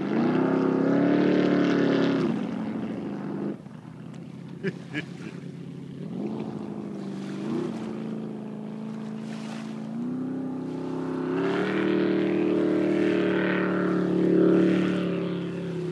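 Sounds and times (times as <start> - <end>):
jet boat engine running: 0.0 - 15.9.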